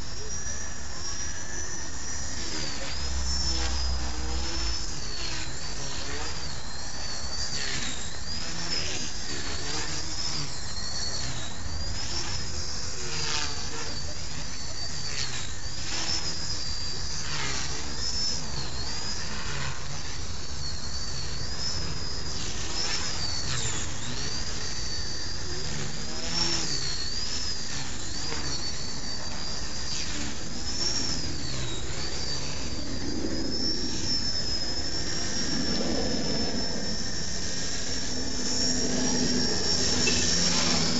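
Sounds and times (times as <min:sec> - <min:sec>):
rc helicopter rotor whine: 0:00.0 - 0:40.9.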